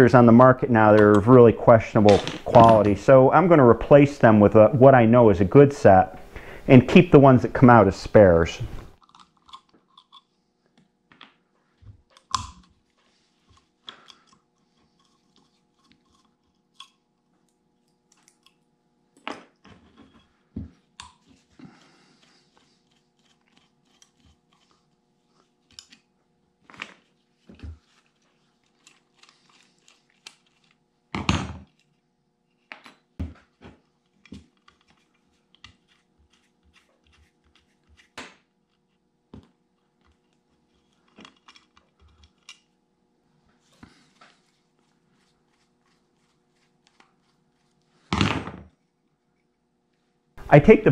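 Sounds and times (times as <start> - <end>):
faint steady hum: 0.0 - 50.9.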